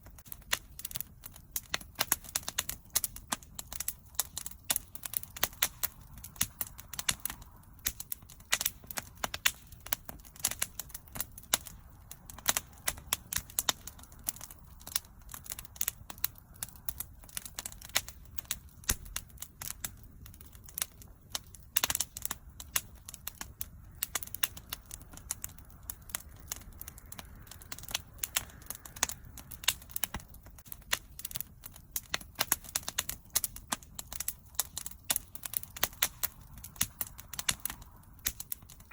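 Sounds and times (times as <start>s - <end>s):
bonfire crackling and popping: 0.0s - 38.9s
low rumble of flames: 0.0s - 38.9s.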